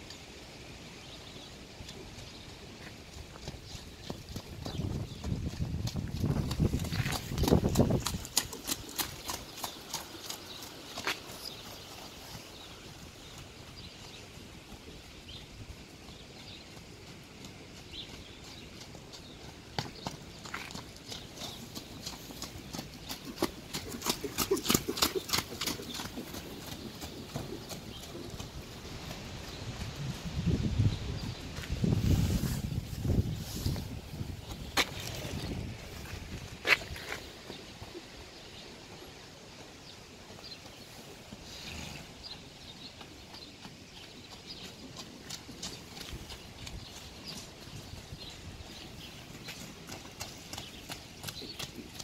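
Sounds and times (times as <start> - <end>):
outdoor background noise: 0.0 - 52.0
horse hoofbeats on sand: 1.2 - 52.0.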